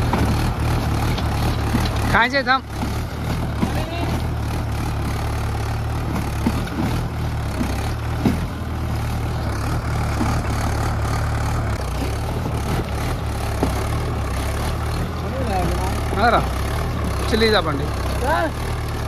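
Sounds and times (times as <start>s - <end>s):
engine knock: 0.0s - 19.0s
tractor diesel engine running: 0.0s - 19.0s.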